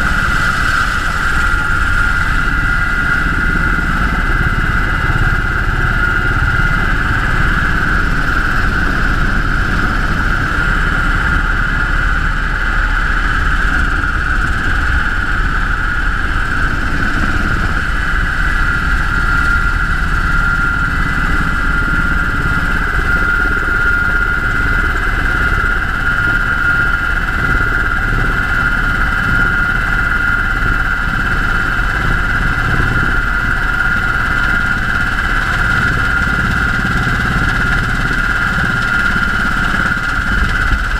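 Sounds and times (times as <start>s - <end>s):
helicopter in flight: 0.0s - 40.9s.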